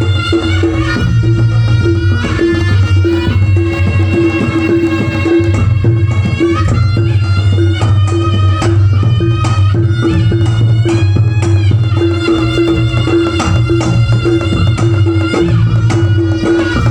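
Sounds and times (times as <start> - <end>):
gamelan music over sound system: 0.0 - 16.9
hand drum beats: 0.0 - 16.9.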